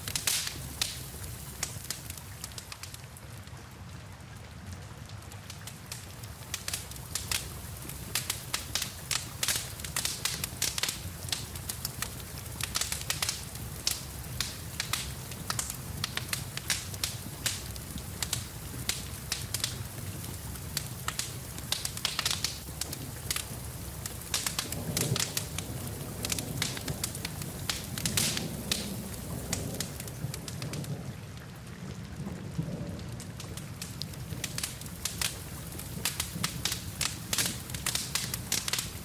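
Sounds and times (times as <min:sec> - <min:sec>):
wood fire crackling and popping: 0:00.0 - 0:03.7, 0:04.3 - 0:39.0
rain pattering: 0:00.0 - 0:39.0.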